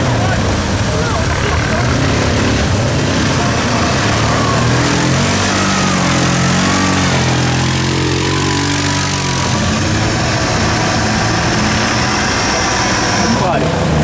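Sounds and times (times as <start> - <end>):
quad bike engine revving: 0.0 - 14.0.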